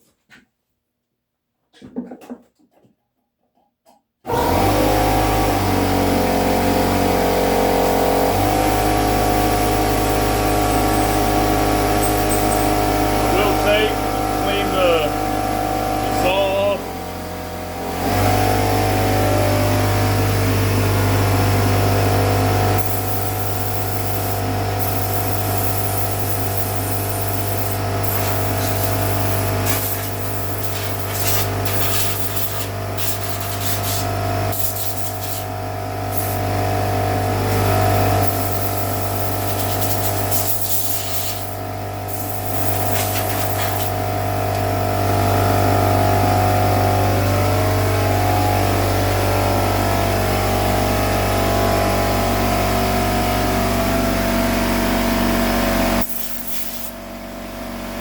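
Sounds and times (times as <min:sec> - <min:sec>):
motor running steadily: 0:04.3 - 0:58.0.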